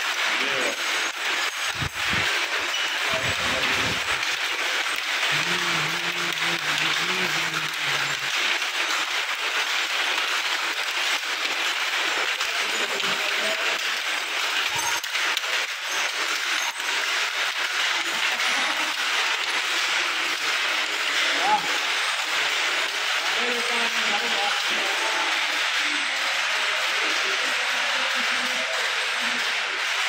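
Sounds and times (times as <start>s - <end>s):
handlooms clattering: 0.0s - 30.0s.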